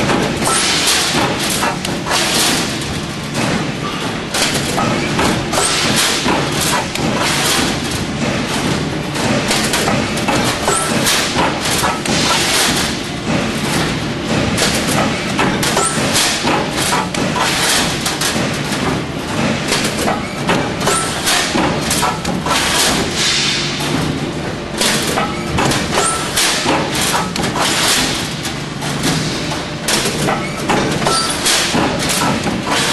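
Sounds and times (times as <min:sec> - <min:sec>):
roll forming machine knocking: 0:00.0 - 0:32.9.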